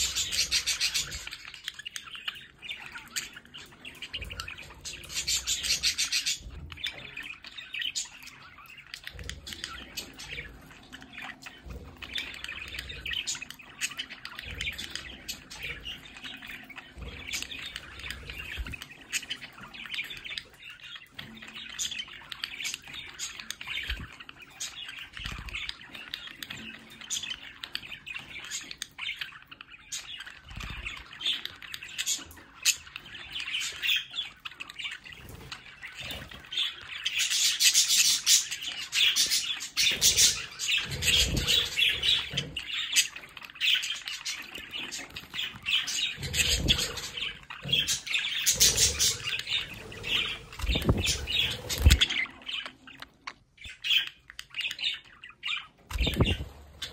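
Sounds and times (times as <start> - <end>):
budgerigars chattering: 0.0 - 56.9.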